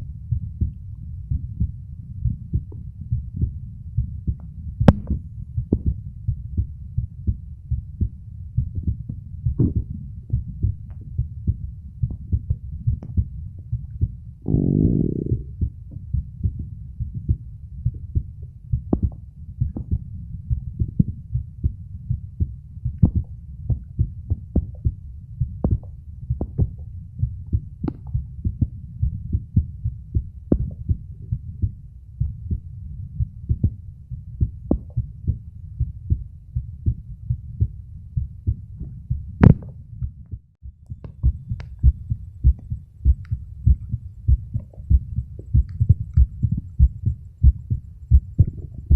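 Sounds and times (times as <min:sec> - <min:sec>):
heartbeat thuds: 0:00.0 - 0:48.9.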